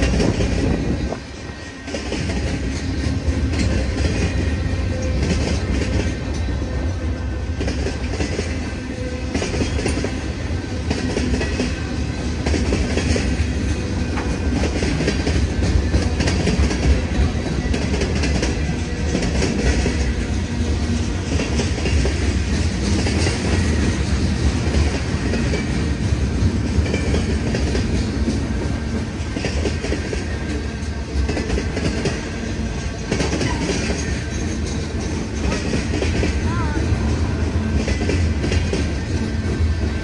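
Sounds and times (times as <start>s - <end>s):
freight train wheels clacking: 0.0s - 40.0s.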